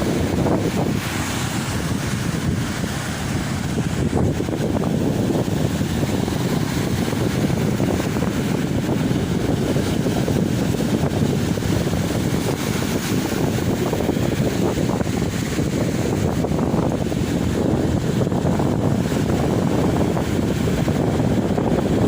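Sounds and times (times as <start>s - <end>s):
sea waves washing onto beach: 0.0s - 22.0s
wind rumbling on microphone: 0.0s - 22.0s.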